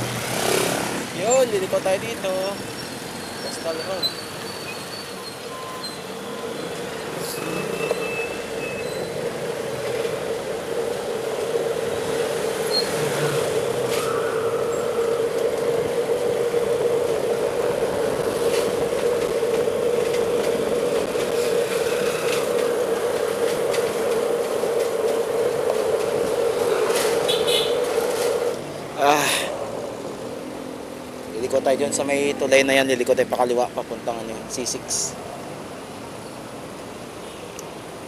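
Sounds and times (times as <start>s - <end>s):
bicycle road noise hum: 0.0s - 38.0s
passing vehicles: 0.0s - 38.0s.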